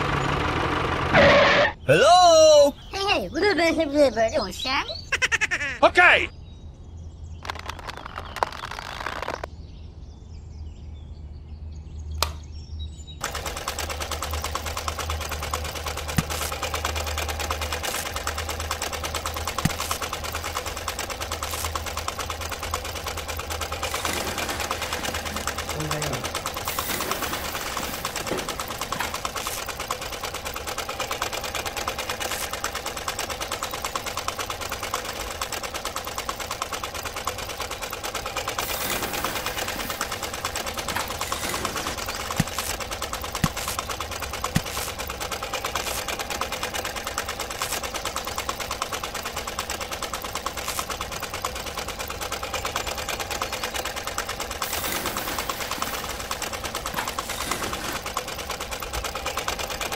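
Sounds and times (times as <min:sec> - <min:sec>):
miniature grinder chattering: 0:07.4 - 0:09.5, 0:13.2 - 0:59.9
sharp clicks: 0:07.4 - 0:09.5, 0:12.1 - 0:12.5, 0:13.2 - 0:59.9.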